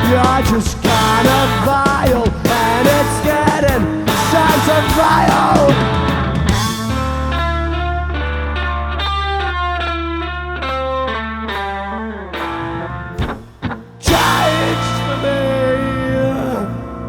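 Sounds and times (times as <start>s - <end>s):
live rock band: 0.0s - 16.7s
guitar picking single notes: 0.0s - 17.0s.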